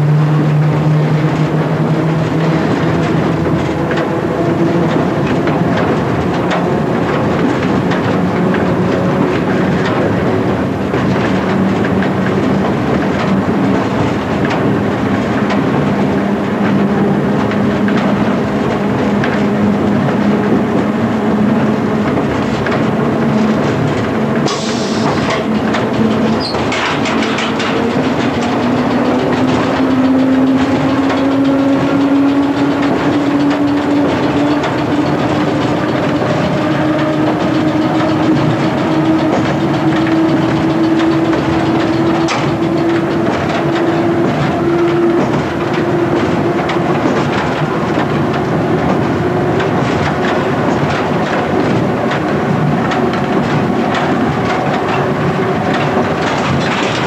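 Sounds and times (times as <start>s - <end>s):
wheels clicking over rail joints: 0.0s - 57.0s.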